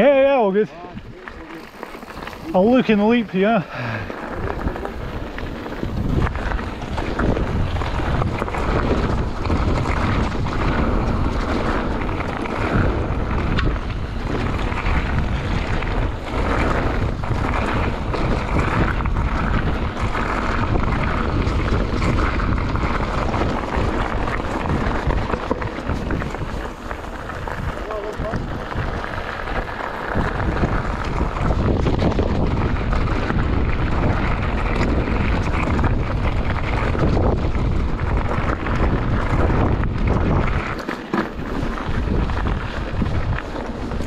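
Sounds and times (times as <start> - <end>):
tyres rumbling on loose stone: 0.0 - 44.0
wind buffeting microphone: 0.0 - 44.0
bike knocks and rattles: 4.0 - 44.0.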